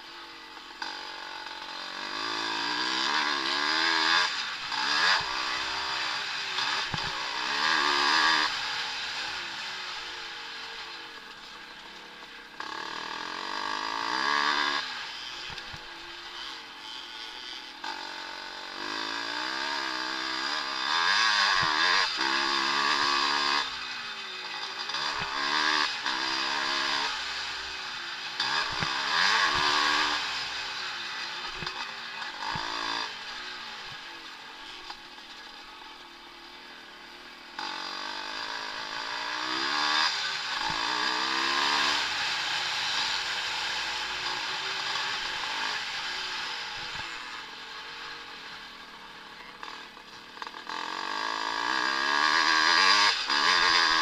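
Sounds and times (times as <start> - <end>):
motocross motorcycles revving: 0.0 - 54.0.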